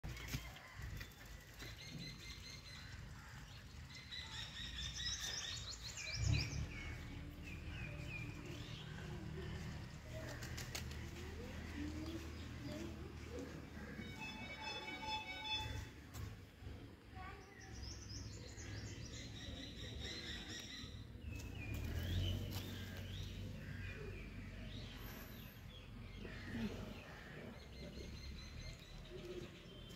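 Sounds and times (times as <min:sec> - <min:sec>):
small birds chirping: 0:01.0 - 0:13.9, 0:17.2 - 0:29.9.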